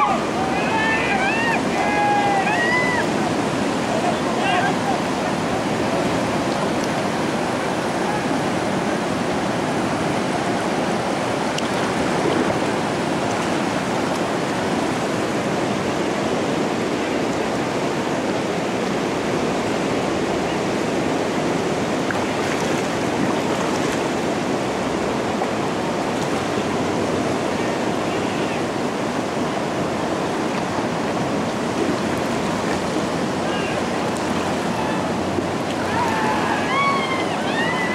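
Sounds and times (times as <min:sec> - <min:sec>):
river rapids rushing: 0:00.0 - 0:37.9.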